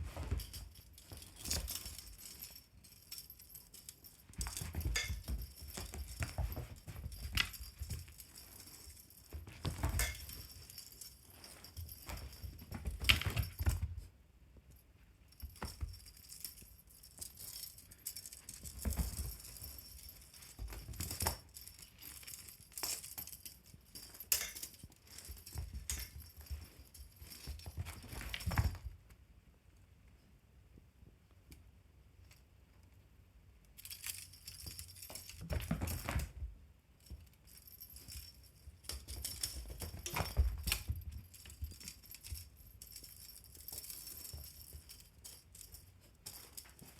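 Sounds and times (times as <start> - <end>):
thumps and scrabbling on floor: 0.0 - 2.6, 4.2 - 14.8, 15.4 - 16.6, 17.2 - 29.2, 34.6 - 46.9
light clinking and rattling: 0.0 - 30.4, 31.3 - 46.9.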